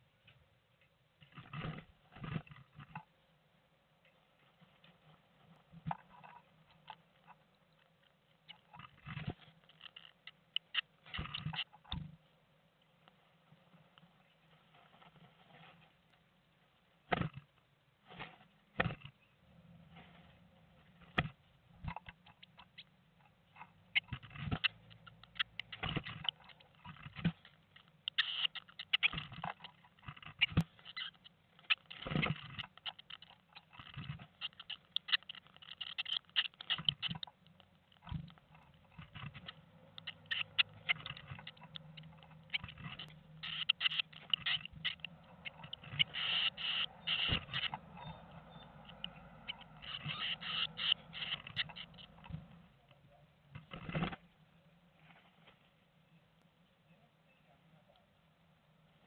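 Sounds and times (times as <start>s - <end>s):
birds rustling and scratching in nest: 0.0s - 56.0s.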